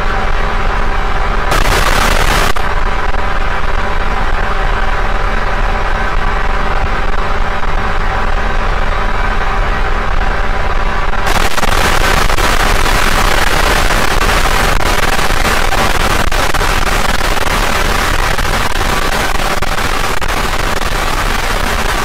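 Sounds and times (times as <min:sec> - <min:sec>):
dense crackling static noise music: 0:00.0 - 0:22.0.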